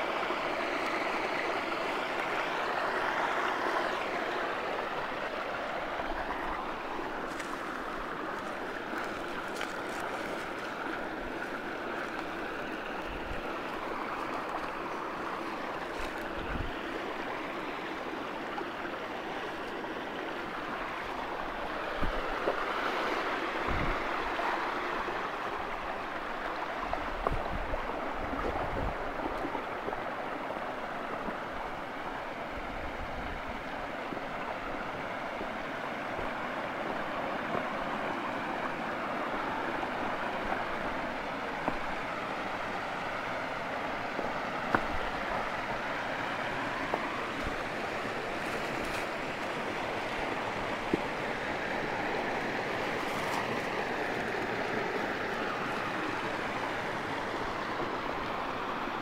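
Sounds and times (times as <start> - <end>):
mountain stream and waterfall rushing: 0.0 - 59.0.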